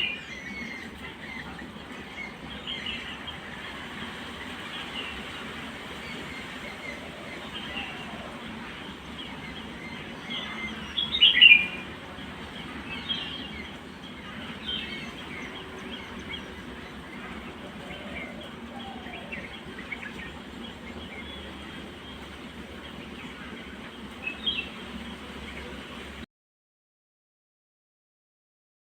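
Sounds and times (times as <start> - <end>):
birds chirping: 0.0 - 26.2.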